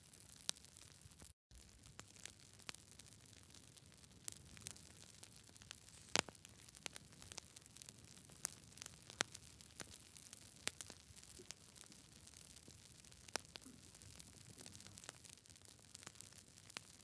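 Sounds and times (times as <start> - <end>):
wood fire crackling: 0.2 - 17.0.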